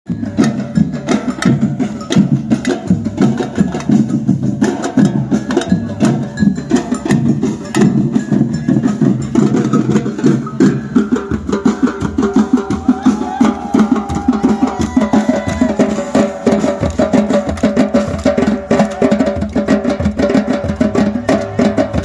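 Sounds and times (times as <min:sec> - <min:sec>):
percussion group drumming: 0:00.1 - 0:22.0.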